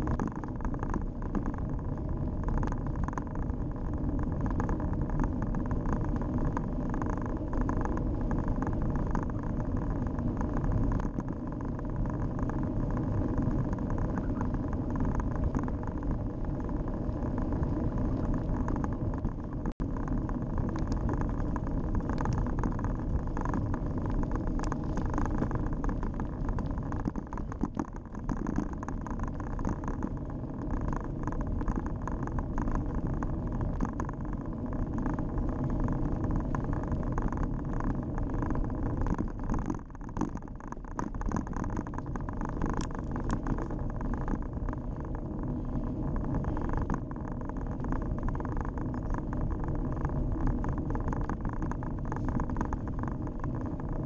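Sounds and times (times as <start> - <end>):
bike rattles and knocks: 0.0 - 44.6
wind on microphone: 0.0 - 54.0.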